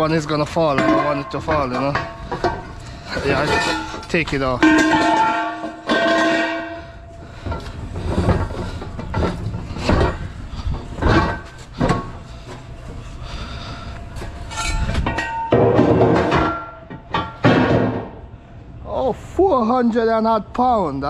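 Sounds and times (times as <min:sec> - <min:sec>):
scrap metal clanking and banging: 0:00.0 - 0:18.3
faint machine hum: 0:00.0 - 0:21.0.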